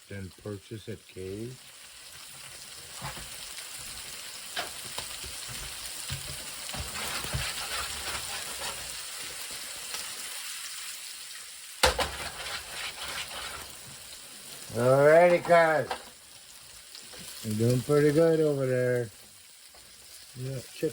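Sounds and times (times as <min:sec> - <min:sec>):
food sizzling in a frying pan: 0:00.0 - 0:20.9.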